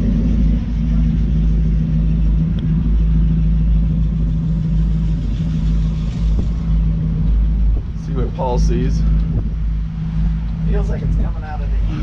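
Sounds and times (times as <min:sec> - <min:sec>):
boat engine droning hum: 0:00.0 - 0:12.0.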